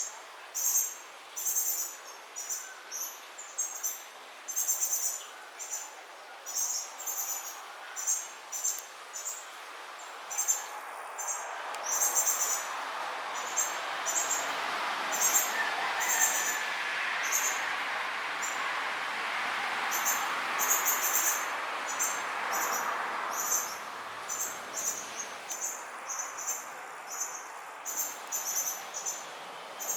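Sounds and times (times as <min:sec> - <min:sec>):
steady background hiss: 0:00.0 - 0:29.9.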